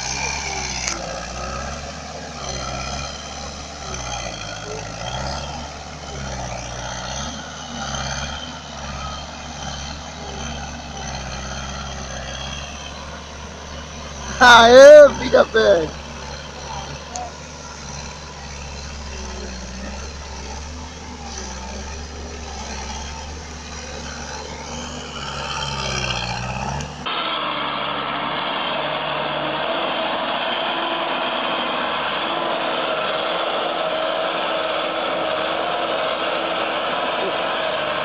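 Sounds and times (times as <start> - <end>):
loader engine revving: 0.0 - 38.0
loader engine running steadily: 0.0 - 38.0.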